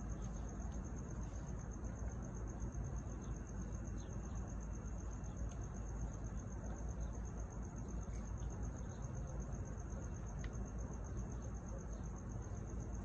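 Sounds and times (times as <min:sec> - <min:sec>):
cricket chirping: 0:00.0 - 0:13.0
low background rumble: 0:00.0 - 0:13.0.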